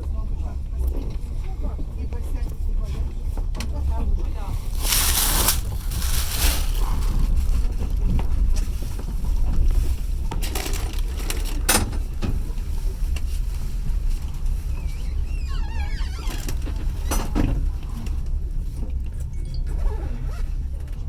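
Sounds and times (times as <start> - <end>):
train carriage rumbling: 0.0 - 21.0.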